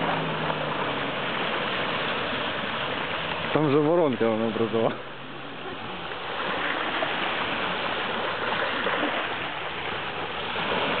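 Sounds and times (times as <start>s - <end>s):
water rushing around boat: 0.0s - 11.0s.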